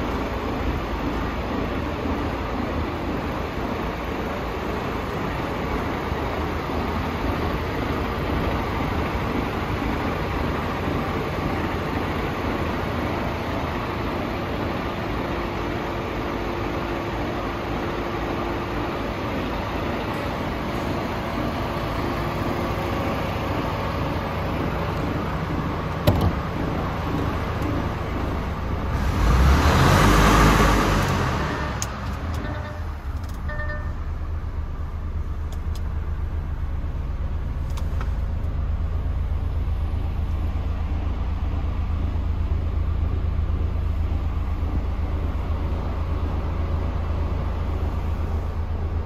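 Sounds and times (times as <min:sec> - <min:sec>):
diesel truck engine idling: 0:00.0 - 0:49.0.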